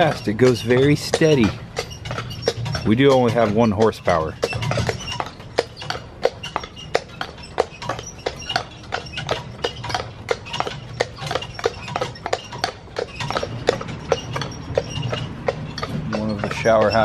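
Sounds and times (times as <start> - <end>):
horse hooves clip-clopping on pavement: 0.0 - 17.0.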